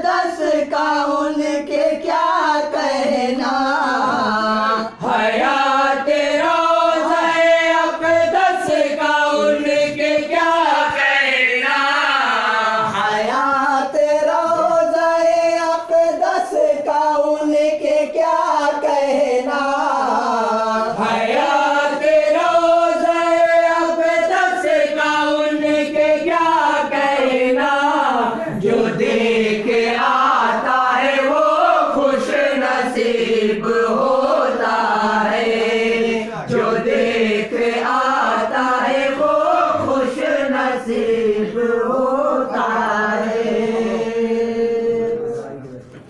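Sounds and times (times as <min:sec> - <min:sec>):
voices chanting and humming: 0:00.0 - 0:46.0.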